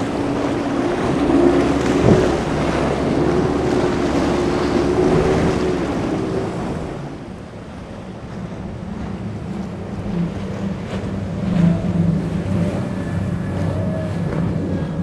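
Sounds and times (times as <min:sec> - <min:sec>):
speedboat engine: 0:00.0 - 0:15.0
wind on microphone: 0:00.0 - 0:15.0.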